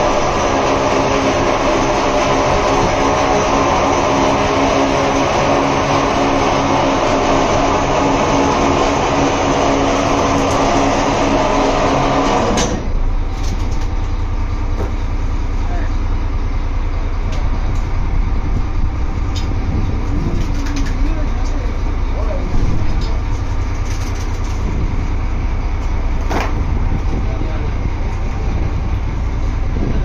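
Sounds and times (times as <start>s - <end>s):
boat engine running: 0.0s - 30.0s
low rumble: 0.0s - 30.0s.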